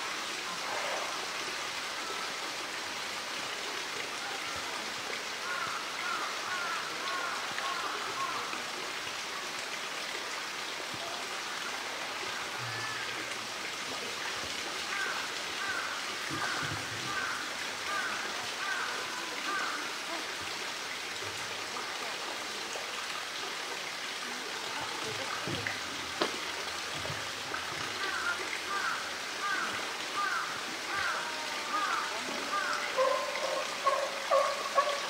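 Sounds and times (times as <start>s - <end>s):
running water: 0.0s - 35.0s.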